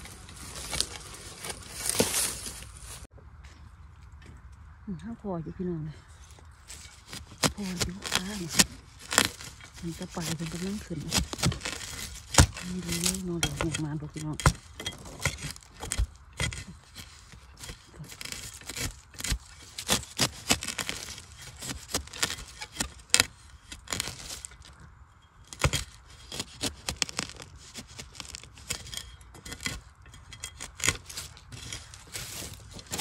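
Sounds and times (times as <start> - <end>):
metal blade scraping soil: 0.0 - 3.1, 6.2 - 33.0.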